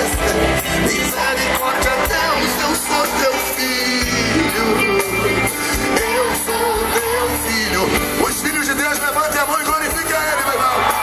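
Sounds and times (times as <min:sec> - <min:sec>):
gospel band playing: 0:00.0 - 0:11.0
guitar: 0:00.0 - 0:11.0.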